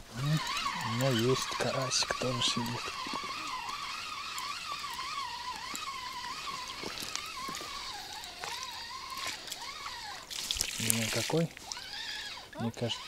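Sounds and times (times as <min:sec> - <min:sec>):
fishing reel whirring: 0:00.0 - 0:13.0.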